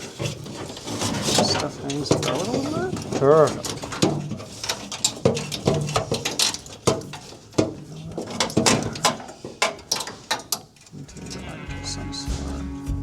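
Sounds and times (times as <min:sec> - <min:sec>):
wiring connectors clicking and clacking: 0:00.0 - 0:11.1.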